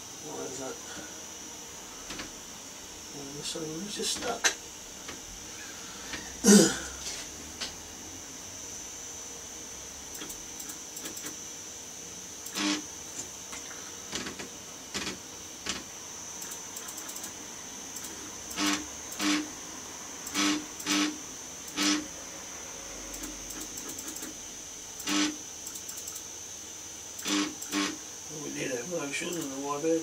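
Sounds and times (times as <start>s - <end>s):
stepper motor buzzes: 0.0s - 30.0s.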